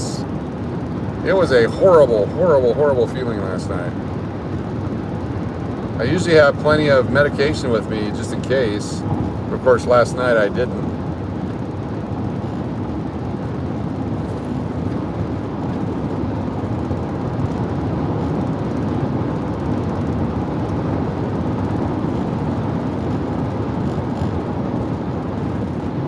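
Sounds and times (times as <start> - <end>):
car cruising road and engine noise: 0.0 - 26.0.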